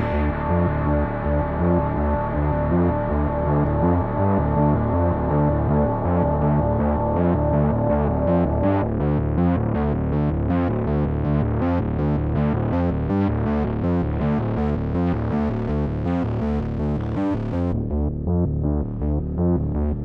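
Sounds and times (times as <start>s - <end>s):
synthesizer bass run: 0.0s - 20.0s.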